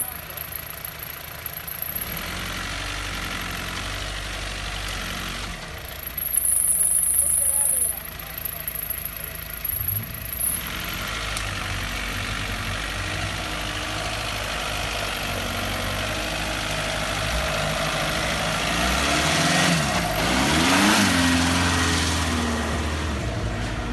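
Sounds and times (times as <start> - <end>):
buggy engine running and revving: 0.0 - 23.9.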